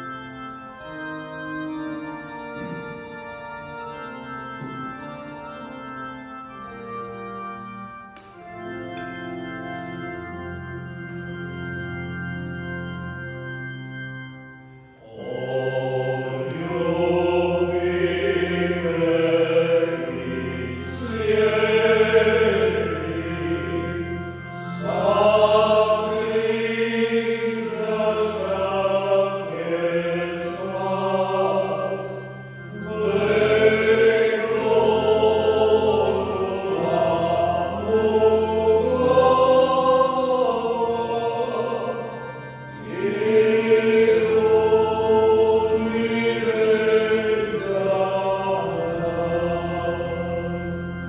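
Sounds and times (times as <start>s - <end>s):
held low accompaniment notes: 0.0s - 51.0s
hymn singing: 0.0s - 51.0s.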